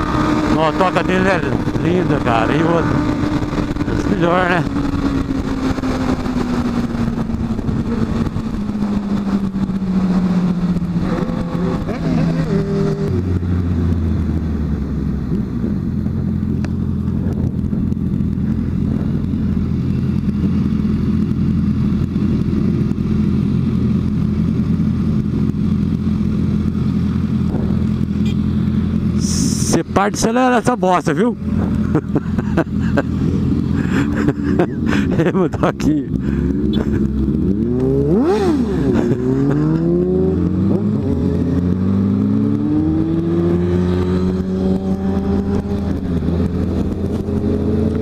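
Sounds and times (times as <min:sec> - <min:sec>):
motorcycle engine slowing: 0:00.0 - 0:48.0.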